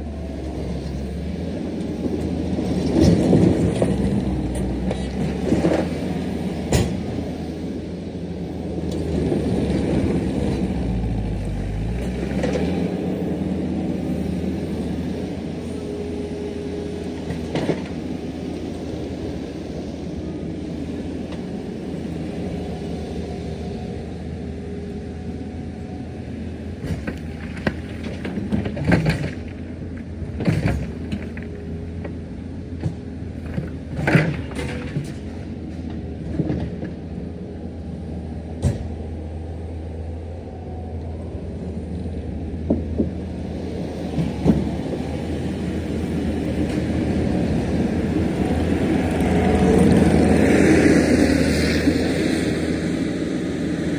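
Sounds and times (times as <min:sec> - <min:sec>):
diesel engine of machinery working: 0:00.0 - 0:53.9.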